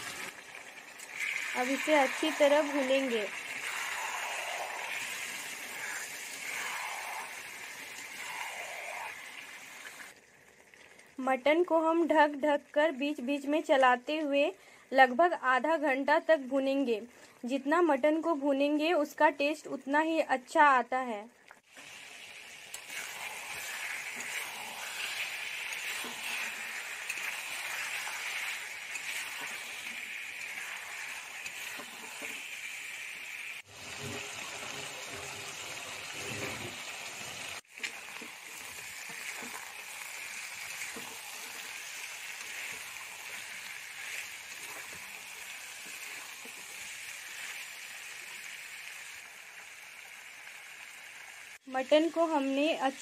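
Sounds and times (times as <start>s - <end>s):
meat sizzling in oil: 0.0s - 12.4s, 21.6s - 53.0s.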